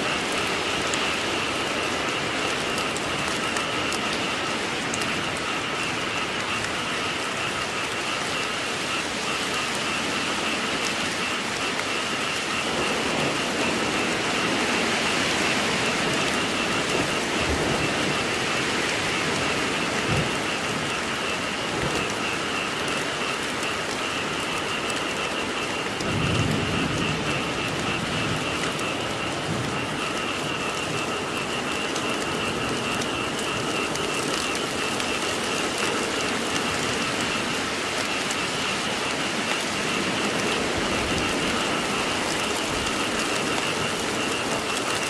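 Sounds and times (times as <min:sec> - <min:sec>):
frogs calling: 0:00.0 - 0:45.0
heavy rain: 0:00.0 - 0:45.0
low thunder rumbles: 0:00.0 - 0:45.0.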